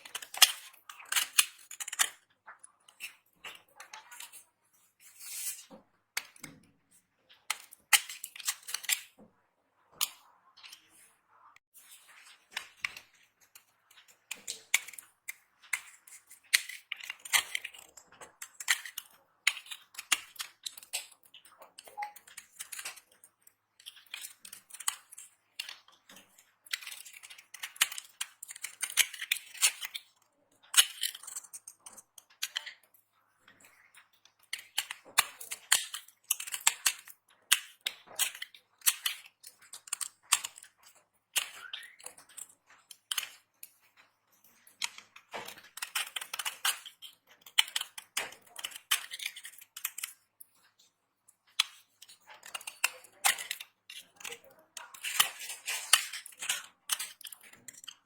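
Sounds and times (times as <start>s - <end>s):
dry soap crunching: 0.0s - 6.5s, 12.1s - 32.9s, 33.5s - 58.0s.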